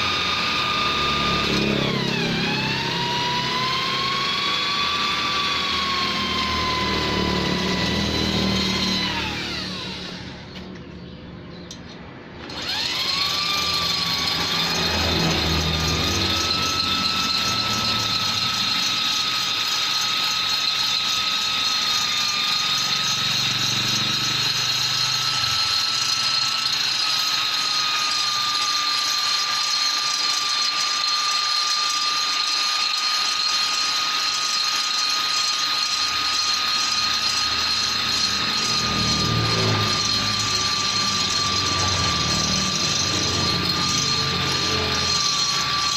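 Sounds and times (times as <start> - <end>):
burr grinding metal: 0.0 - 45.9
die grinder whining: 0.0 - 45.9.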